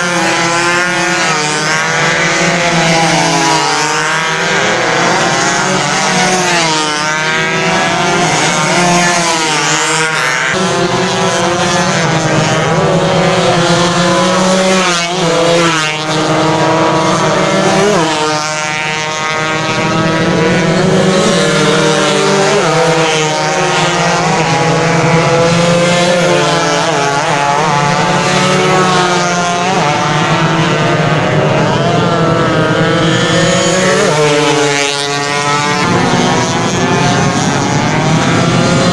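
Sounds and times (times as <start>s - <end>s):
racing motorcycles revving: 0.0s - 38.9s.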